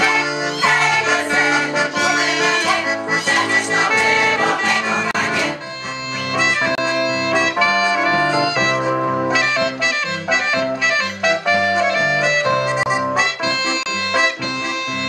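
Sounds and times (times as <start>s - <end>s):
accordion: 0.0s - 15.0s
saxophone: 0.0s - 15.0s.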